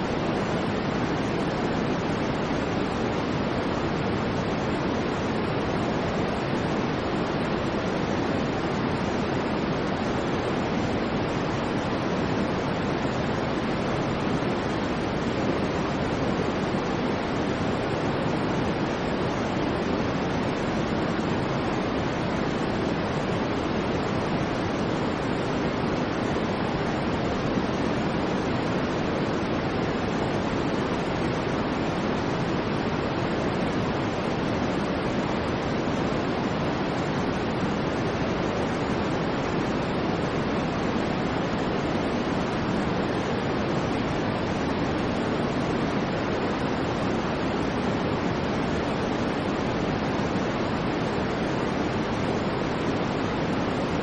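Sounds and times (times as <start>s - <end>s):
electronic noise hiss: 0.0s - 54.0s.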